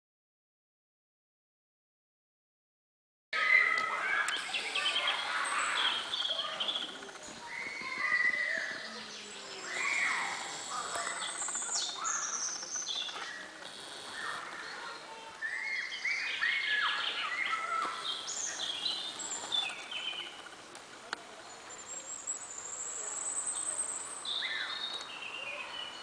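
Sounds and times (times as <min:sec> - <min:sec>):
songbirds singing: 0:03.4 - 0:26.0.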